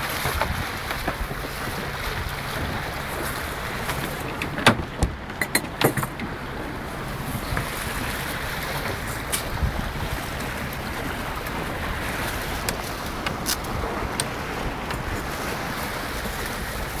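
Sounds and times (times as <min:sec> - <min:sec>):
water rushing past hull: 0:00.0 - 0:17.0
wind buffeting microphone: 0:00.0 - 0:17.0.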